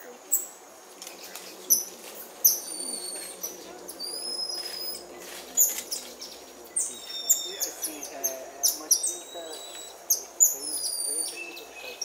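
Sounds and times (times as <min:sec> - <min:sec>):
monkeys chirping: 0:00.0 - 0:12.0
monkeys whistling: 0:01.7 - 0:12.0.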